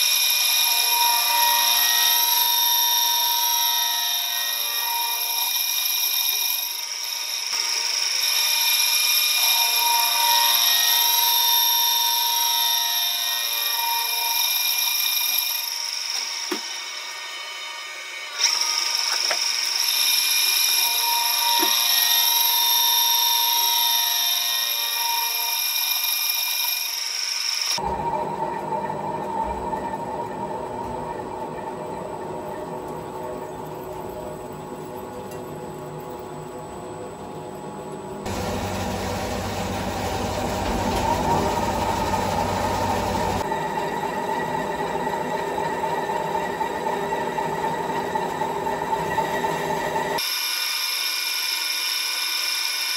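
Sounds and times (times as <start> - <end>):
metal lathe cutting whine: 0.0 - 35.1, 38.3 - 52.9.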